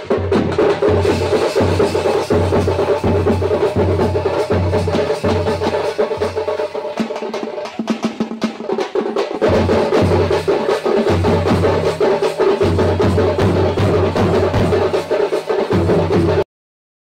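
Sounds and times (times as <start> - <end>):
drums beaten fast: 0.0 - 16.5.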